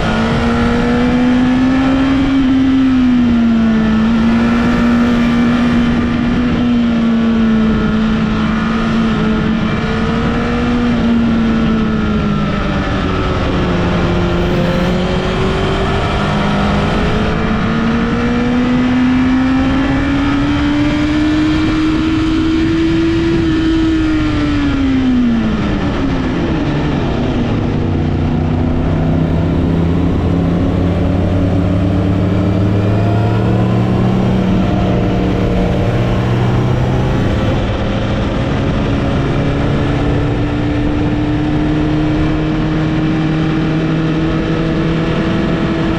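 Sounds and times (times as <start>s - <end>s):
vehicle engine: 0.0s - 45.9s
wind and road noise: 0.0s - 45.9s.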